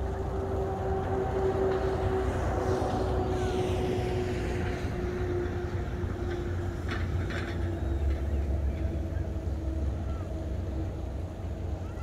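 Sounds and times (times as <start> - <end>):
distant engine hum: 0.0 - 12.0
steady low rumble: 0.0 - 12.0.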